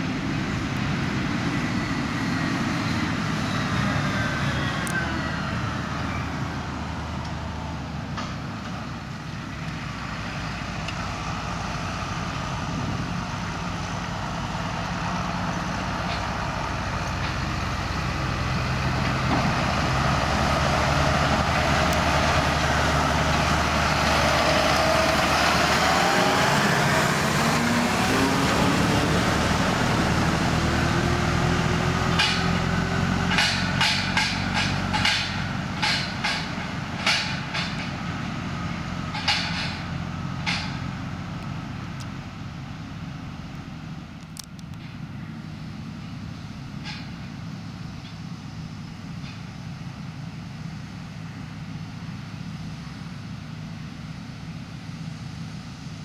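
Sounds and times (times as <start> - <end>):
tractor diesel engines running: 0.0 - 56.0.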